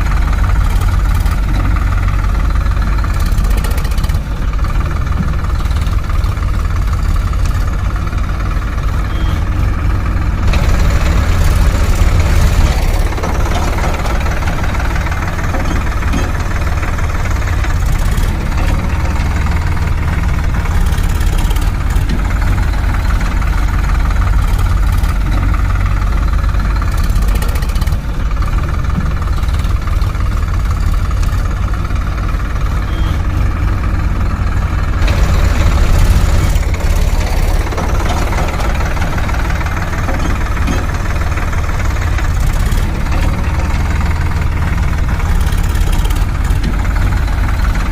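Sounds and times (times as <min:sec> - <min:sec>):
diesel engine chugging: 0:00.0 - 0:47.9.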